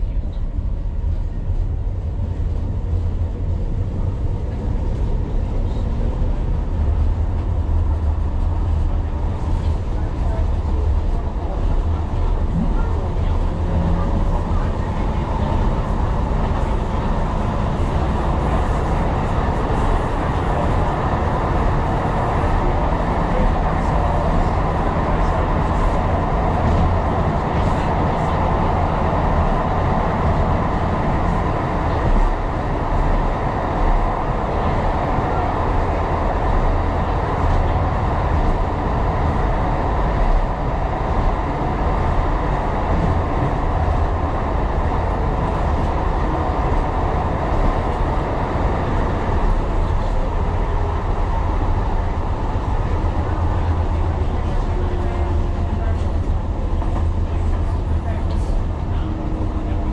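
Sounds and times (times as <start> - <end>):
train rumble and rail noise: 0.0 - 59.9.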